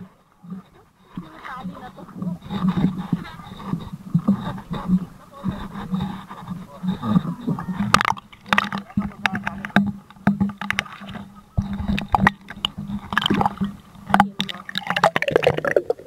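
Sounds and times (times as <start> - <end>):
steady low hum: 0.0 - 16.0
water splashing and gurgling: 0.0 - 16.0.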